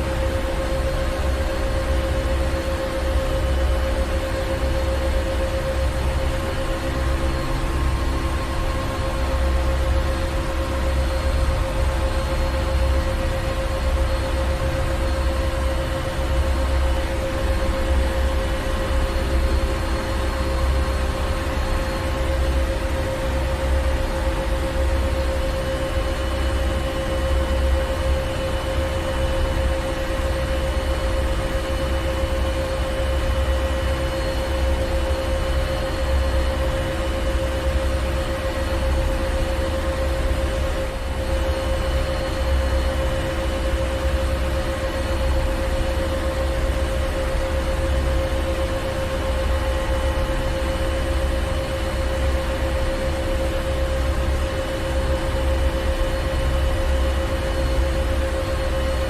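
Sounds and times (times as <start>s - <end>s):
steady machinery hum: 0.0s - 59.0s.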